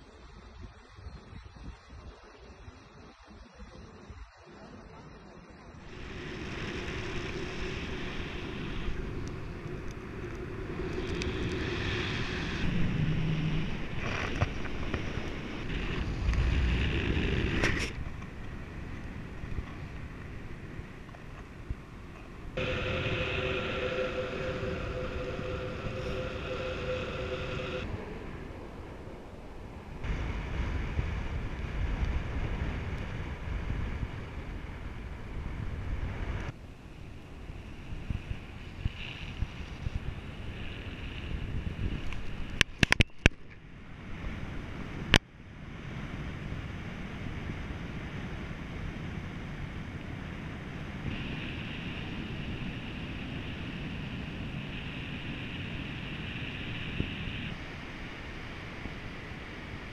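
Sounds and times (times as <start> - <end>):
wind rushing over microphone: 5.8 - 59.9.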